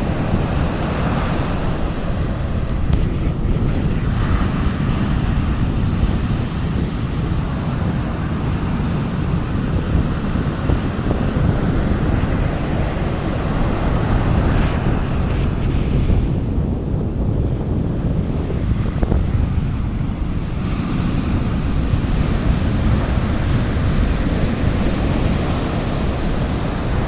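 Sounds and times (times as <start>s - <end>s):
sea waves breaking on beach: 0.0s - 27.0s
wind buffeting microphone: 0.0s - 27.0s.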